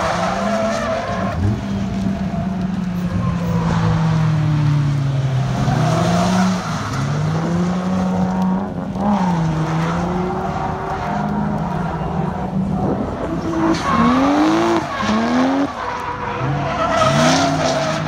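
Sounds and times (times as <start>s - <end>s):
car engine revving: 0.0s - 18.0s
tyres squealing on asphalt: 0.0s - 18.0s.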